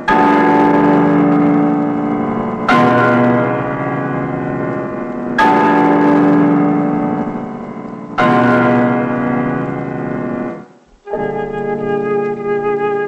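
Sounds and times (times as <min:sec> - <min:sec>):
large bell ringing: 0:00.0 - 0:12.0.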